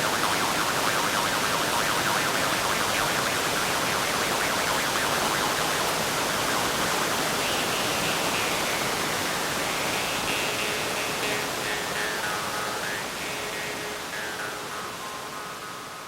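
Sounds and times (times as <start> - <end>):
large waterfall roaring: 0.0 - 16.0.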